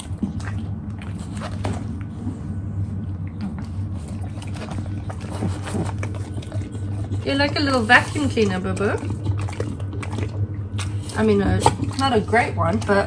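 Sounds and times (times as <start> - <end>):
dog chewing apple: 0.0 - 13.0
low steady hum: 0.0 - 13.0.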